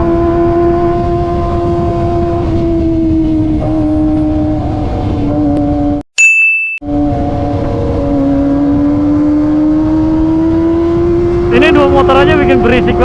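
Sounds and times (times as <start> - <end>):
motorcycle engine at high revs: 0.0 - 6.0, 6.8 - 13.0.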